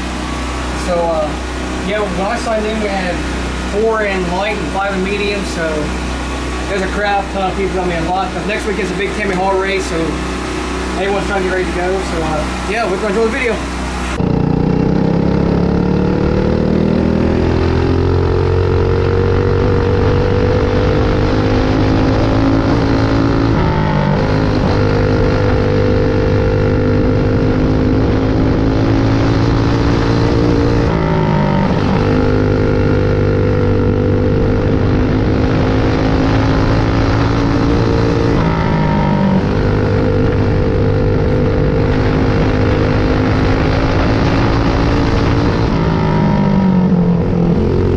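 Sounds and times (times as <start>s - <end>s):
kart engine at high revs: 0.0s - 47.9s.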